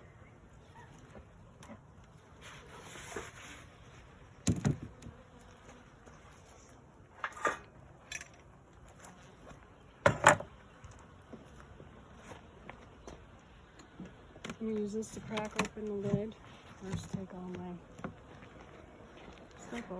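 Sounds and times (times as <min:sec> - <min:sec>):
honey bees buzzing: 0:00.0 - 0:19.9.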